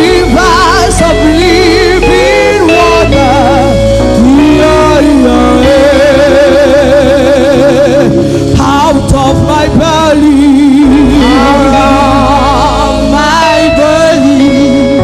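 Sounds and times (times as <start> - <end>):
person singing with vibrato: 0.0 - 15.0
sustained chords: 0.0 - 15.0.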